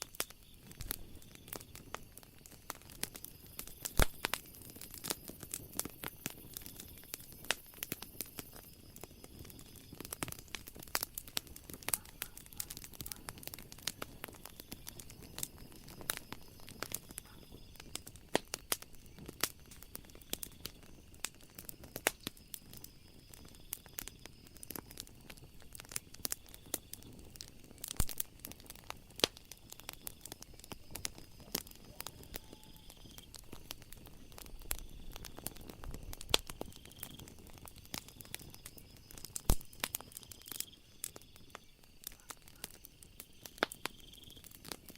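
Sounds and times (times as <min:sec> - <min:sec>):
night insects trilling: 0:00.0 - 0:44.9
wood fire crackling and popping: 0:00.0 - 0:44.9.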